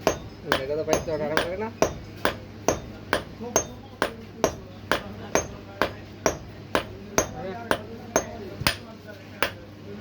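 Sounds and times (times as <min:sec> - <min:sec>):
hammer striking metal on anvil: 0:00.0 - 0:09.7.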